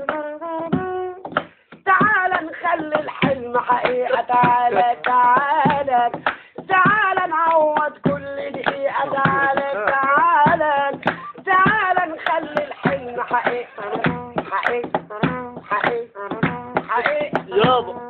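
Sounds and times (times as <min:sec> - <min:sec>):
hand claps: 0:00.0 - 0:17.8.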